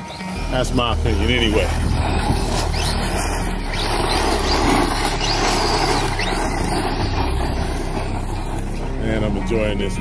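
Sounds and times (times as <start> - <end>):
truck tearing across loose dirt: 0.0 - 9.2
electric motor whining: 0.0 - 9.5.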